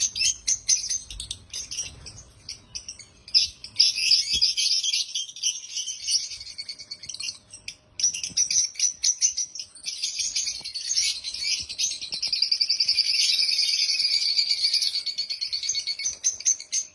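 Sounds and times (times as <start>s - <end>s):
lovebirds chirping: 0.0s - 16.9s.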